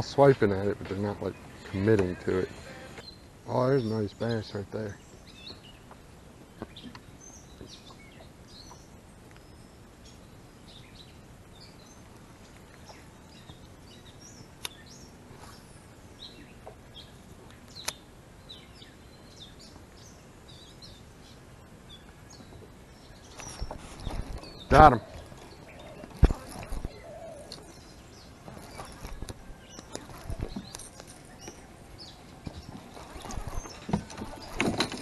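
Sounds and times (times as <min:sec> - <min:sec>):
songbirds chirping: 0:00.0 - 0:35.0
steady background hiss: 0:00.0 - 0:35.0.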